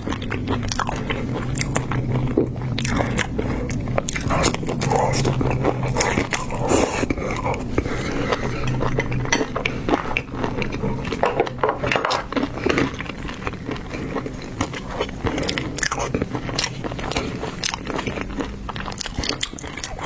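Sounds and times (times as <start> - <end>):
wet chewing and crunching: 0.0 - 20.0.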